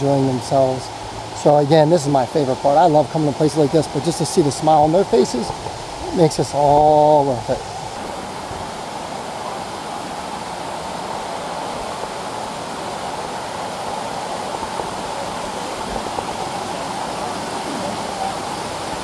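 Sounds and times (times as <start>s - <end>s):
waterfall roar: 0.0s - 19.0s.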